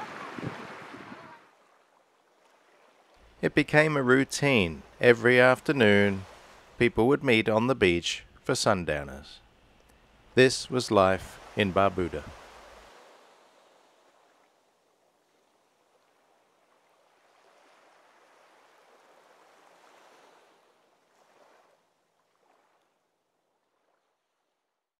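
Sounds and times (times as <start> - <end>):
small waves washing onto sand: 0.0 - 8.0, 9.6 - 24.5.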